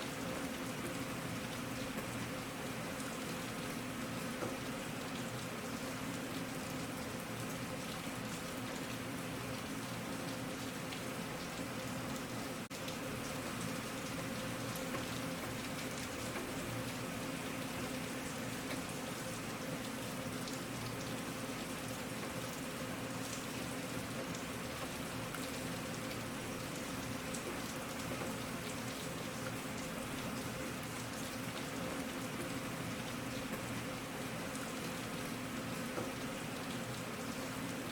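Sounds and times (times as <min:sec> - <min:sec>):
steady rain: 0:00.0 - 0:37.9.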